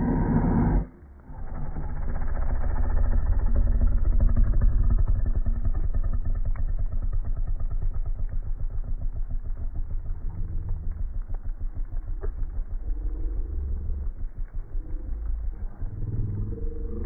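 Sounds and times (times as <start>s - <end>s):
snow leopard growling: 0.0s - 17.0s.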